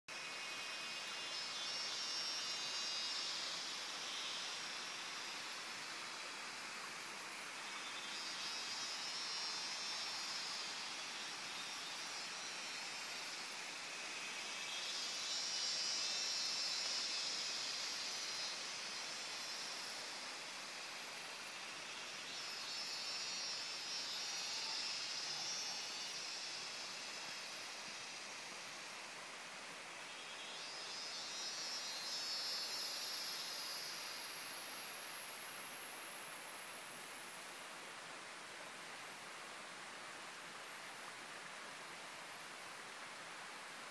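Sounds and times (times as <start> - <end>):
cicadas buzzing: 0.1 - 41.5
faint steady high whine: 0.1 - 43.9.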